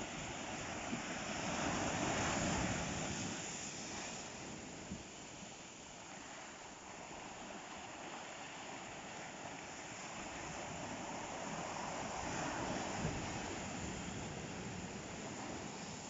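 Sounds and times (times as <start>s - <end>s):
waves washing on shore: 0.0s - 16.0s.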